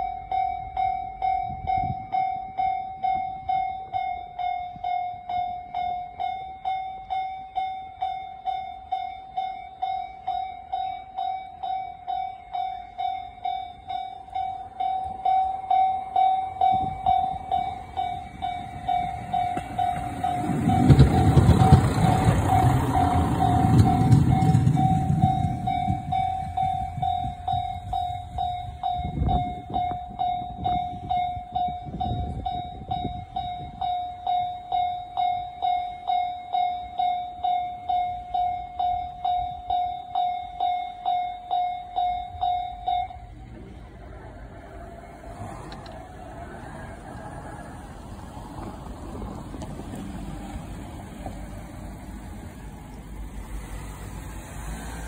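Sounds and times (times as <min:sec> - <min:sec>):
diesel railcar rumbling: 0:00.0 - 0:55.0
level-crossing alarm ringing: 0:00.0 - 0:55.0.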